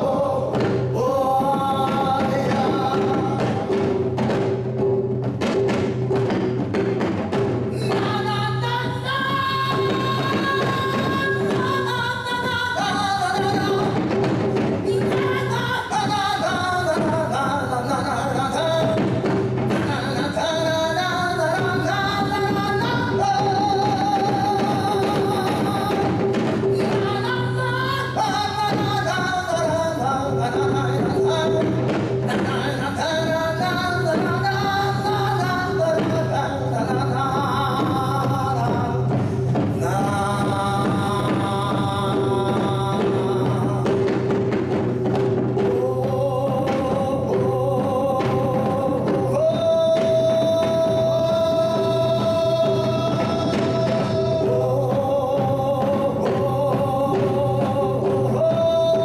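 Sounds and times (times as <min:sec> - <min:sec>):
man singing with vibrato: 0:00.0 - 0:59.0.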